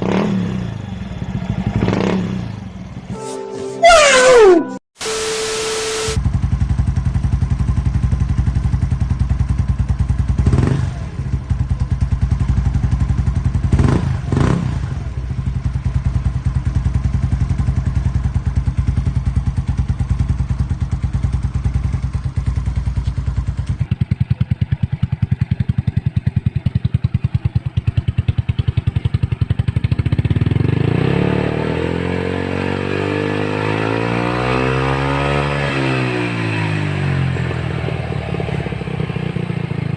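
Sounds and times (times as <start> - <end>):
scooter engine idling and revving: 0.0 - 3.2, 6.2 - 39.9.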